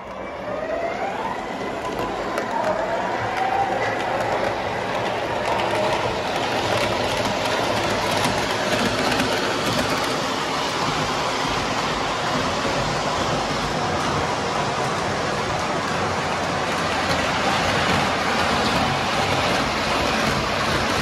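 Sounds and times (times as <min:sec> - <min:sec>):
model train wheels and motors: 0:00.0 - 0:21.0.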